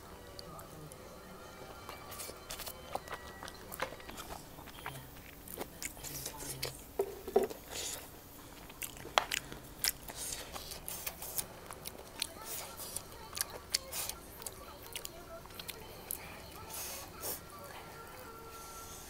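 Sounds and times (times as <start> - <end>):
person chewing food: 1.5 - 18.8.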